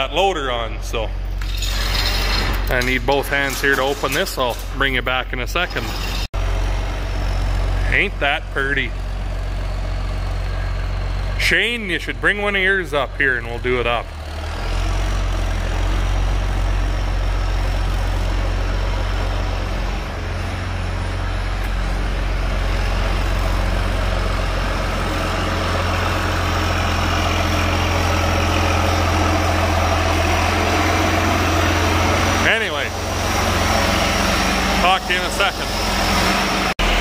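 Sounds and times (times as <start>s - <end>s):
tractor diesel engine hum: 0.0s - 37.0s.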